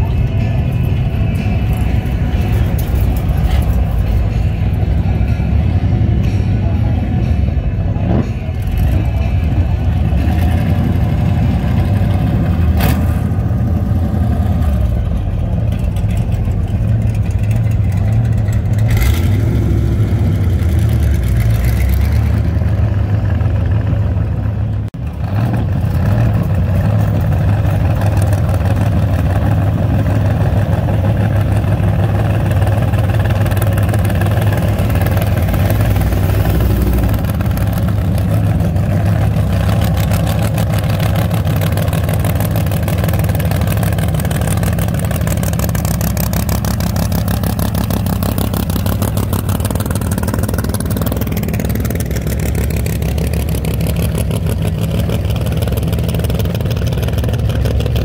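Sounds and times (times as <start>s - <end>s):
car engines exhaust rumble: 0.0s - 58.0s.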